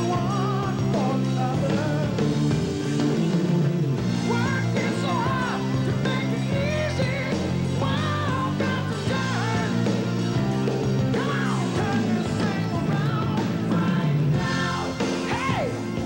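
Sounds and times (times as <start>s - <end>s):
rock music with singing: 0.0s - 16.0s.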